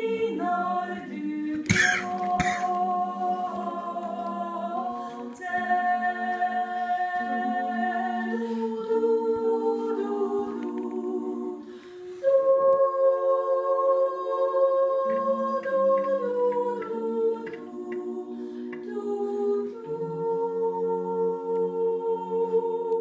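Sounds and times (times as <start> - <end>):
women's choir singing a cappella: 0.0 - 23.0.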